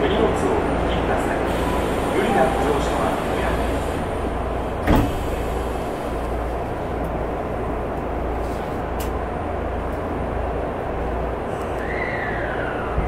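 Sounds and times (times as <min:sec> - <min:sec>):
subway car rumble and hiss: 0:00.0 - 0:13.0.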